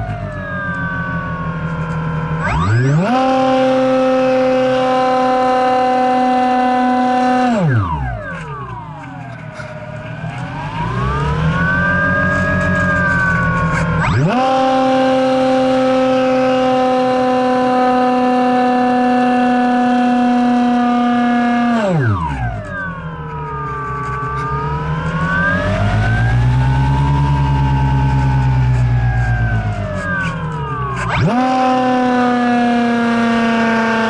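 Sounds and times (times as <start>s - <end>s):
model plane electric motor whining: 0.0s - 34.0s.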